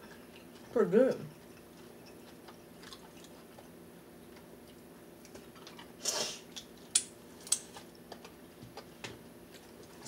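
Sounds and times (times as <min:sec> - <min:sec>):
faint chewing: 0:00.0 - 0:10.0.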